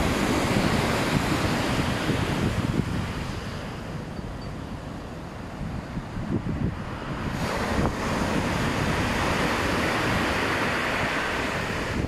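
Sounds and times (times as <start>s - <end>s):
surf breaking and washing in: 0.0s - 12.0s
wind buffeting microphone: 0.0s - 12.0s.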